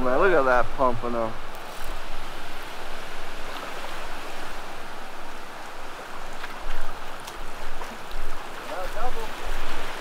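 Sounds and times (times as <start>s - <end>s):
ocean surf on sandy beach: 0.0s - 10.0s
wind buffeting microphone: 0.0s - 10.0s.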